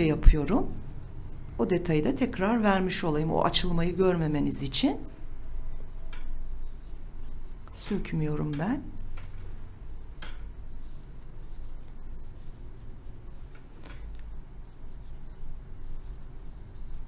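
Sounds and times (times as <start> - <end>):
cord rubbing through stitches: 0.0 - 17.0.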